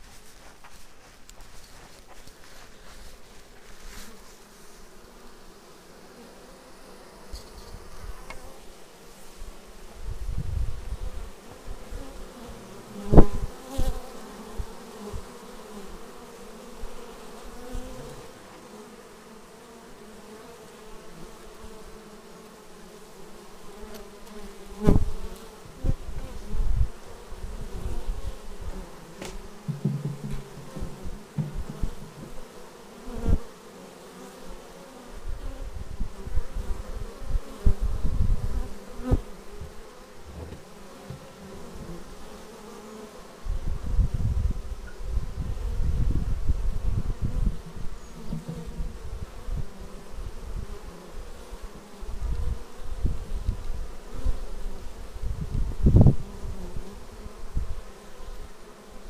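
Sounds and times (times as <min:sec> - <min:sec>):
bees flying close by: 0:00.0 - 0:59.0
honeybees buzzing: 0:00.0 - 0:59.0.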